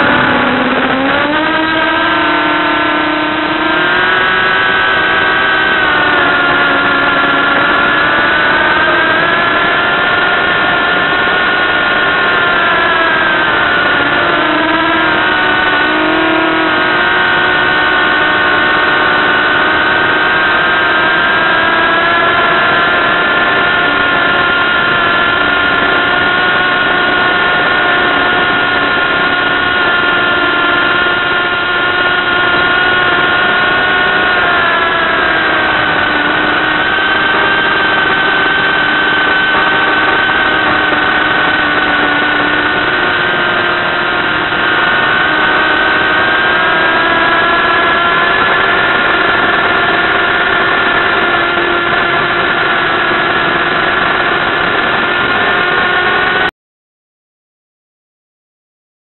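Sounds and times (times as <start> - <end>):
quadcopter motors whining: 0.0 - 56.5.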